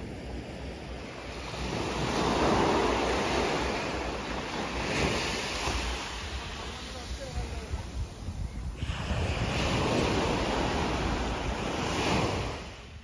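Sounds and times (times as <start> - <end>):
waves washing up a beach: 0.0 - 13.0
wind buffeting microphone: 0.0 - 13.0.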